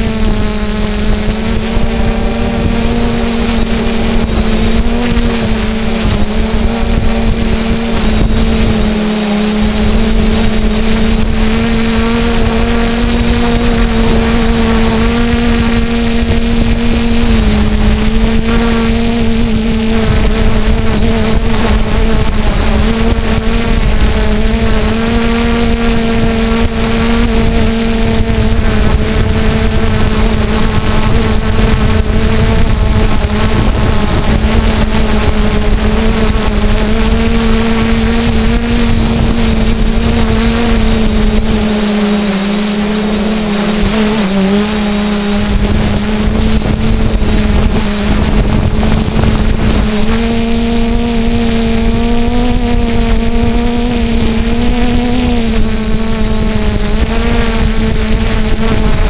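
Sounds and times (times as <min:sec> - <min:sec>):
drone propellers hovering hum: 0:00.0 - 0:59.0.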